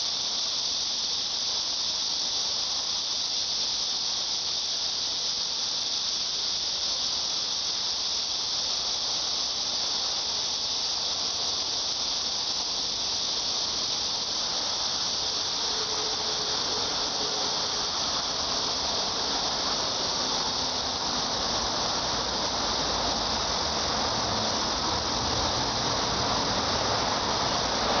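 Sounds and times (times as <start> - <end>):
cicadas buzzing: 0.0 - 28.0.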